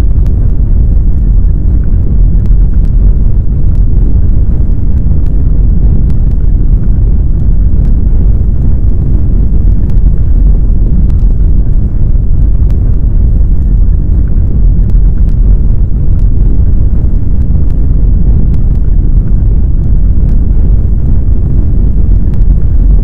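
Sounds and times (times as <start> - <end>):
faint crackles: 0.0 - 23.0
low rumble of ground shaking: 0.0 - 23.0.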